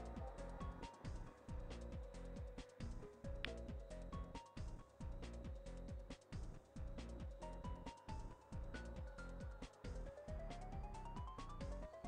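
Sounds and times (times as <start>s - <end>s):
electronic music with beat: 0.0s - 12.0s.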